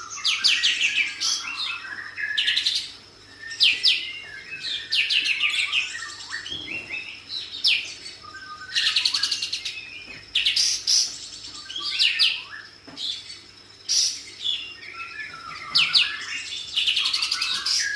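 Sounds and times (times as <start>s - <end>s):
bird singing rattling trills: 0.0s - 17.9s.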